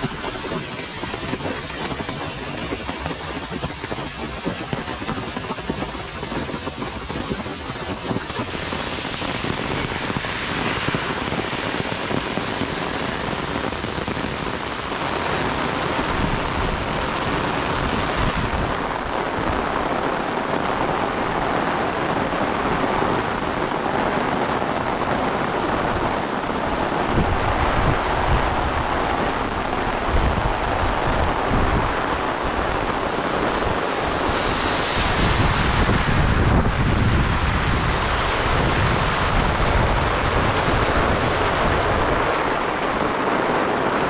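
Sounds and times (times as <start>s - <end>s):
heavy rain falling: 0.0s - 44.0s.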